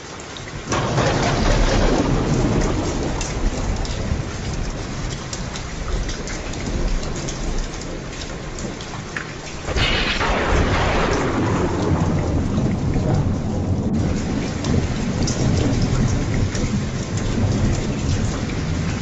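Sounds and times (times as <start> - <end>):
raindrops ticking on surface: 0.0 - 19.0
steady rain falling: 0.0 - 19.0
thunder rumbling: 0.6 - 19.0.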